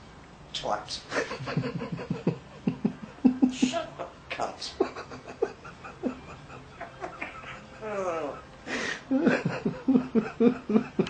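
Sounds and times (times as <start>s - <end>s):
person laughing: 1.1s - 4.0s, 4.7s - 11.0s.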